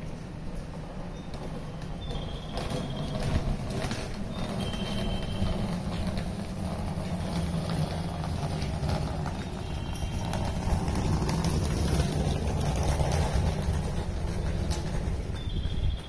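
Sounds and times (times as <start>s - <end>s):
train wheels rumbling on rail: 0.0s - 16.0s
high wheel squeals: 1.0s - 16.0s.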